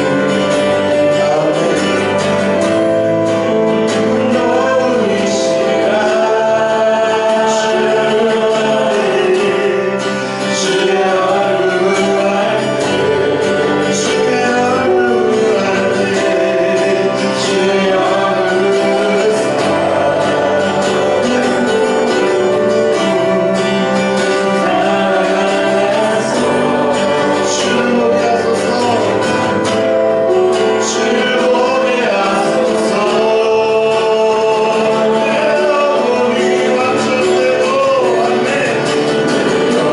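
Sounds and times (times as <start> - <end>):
choir singing worship song: 0.0 - 39.9
instrumental accompaniment: 0.0 - 39.9.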